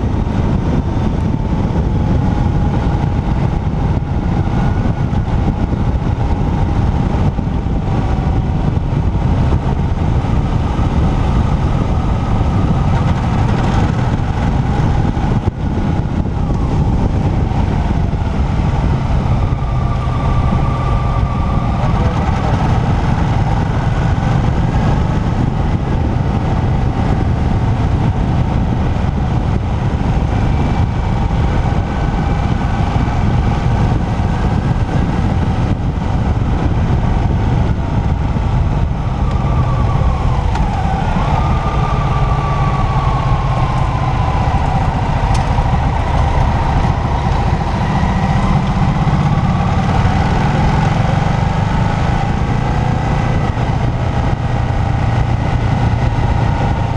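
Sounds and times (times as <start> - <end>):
motorcycle engine running: 0.0 - 56.9
wind rush on microphone: 0.0 - 56.9.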